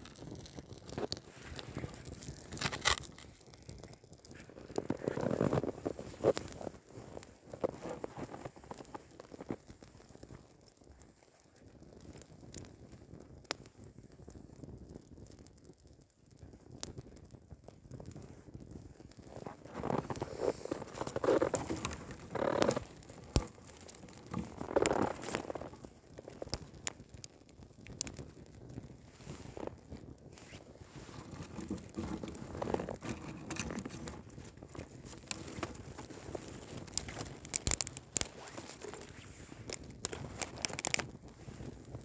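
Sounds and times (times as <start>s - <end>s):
rustling and crunching: 0.0s - 11.3s, 19.0s - 42.0s
campfire crackling and popping: 0.0s - 42.0s.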